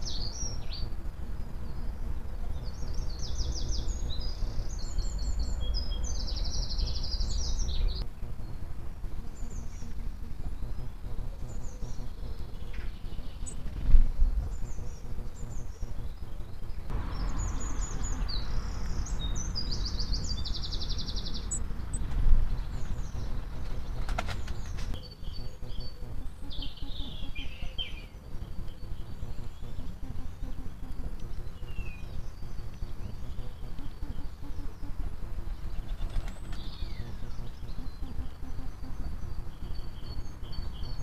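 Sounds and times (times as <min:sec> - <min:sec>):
birds singing trilled phrases: 0:00.0 - 0:41.0
low background rumble: 0:00.0 - 0:41.0.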